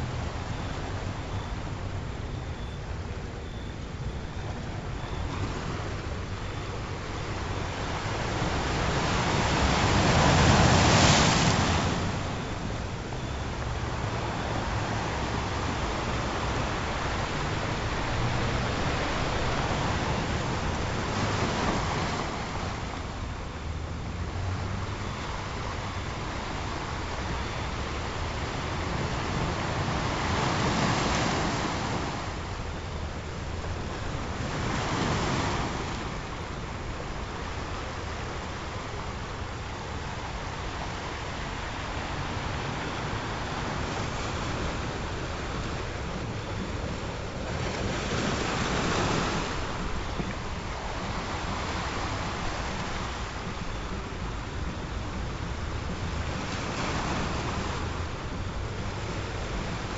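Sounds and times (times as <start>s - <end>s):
ocean waves breaking: 3.1s - 59.9s.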